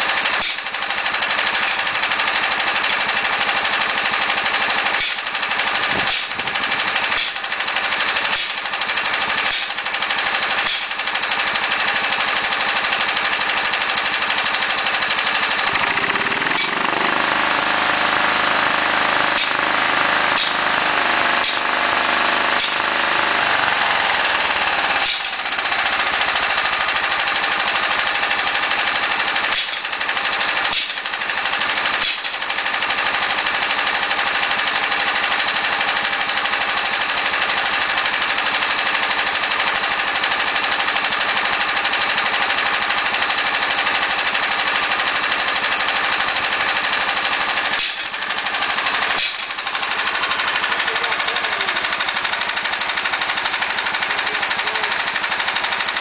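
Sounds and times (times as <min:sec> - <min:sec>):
riding mower engine idling unevenly: 0:00.0 - 0:56.0.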